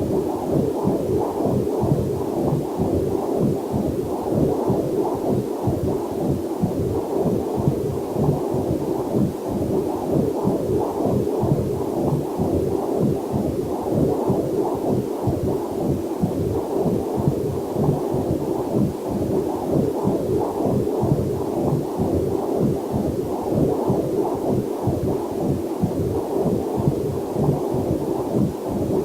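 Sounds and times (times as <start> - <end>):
whooshing heartbeat pulse: 0.0 - 29.0.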